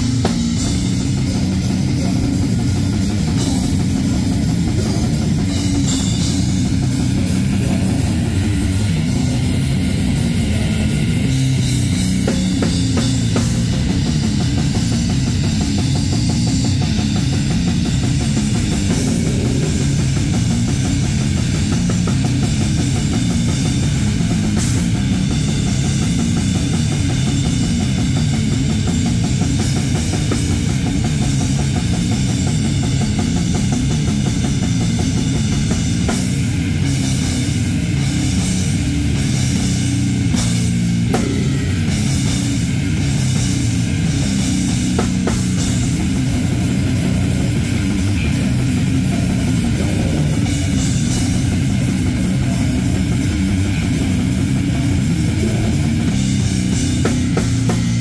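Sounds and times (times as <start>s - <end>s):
drum kit with cymbals: 0.0s - 58.0s
electric guitar: 0.0s - 58.0s.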